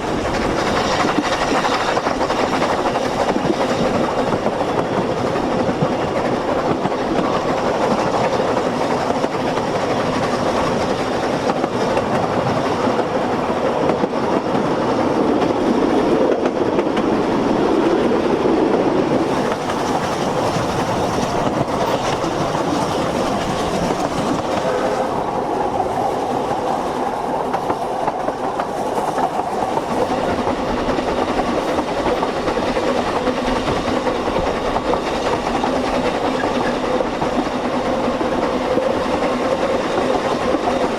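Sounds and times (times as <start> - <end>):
train carriages rumbling: 0.0 - 40.9.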